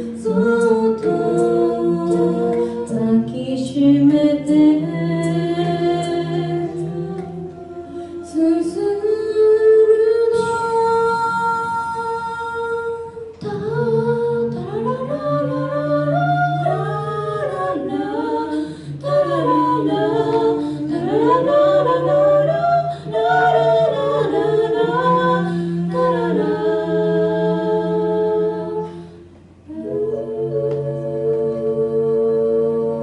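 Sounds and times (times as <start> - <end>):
a cappella group singing in harmony: 0.0 - 33.0.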